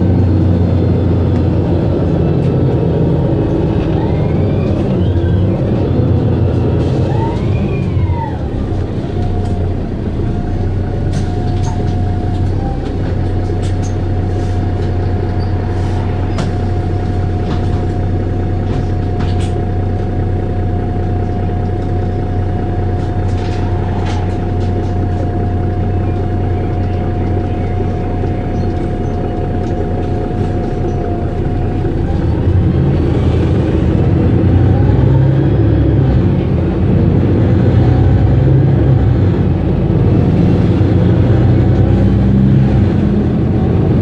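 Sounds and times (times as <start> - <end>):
steady whine: 0.0 - 37.4
bus engine idling: 0.0 - 44.0.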